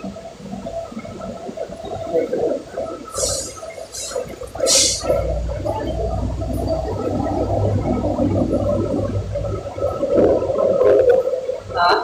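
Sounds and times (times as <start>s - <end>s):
water gurgling: 0.0s - 12.0s.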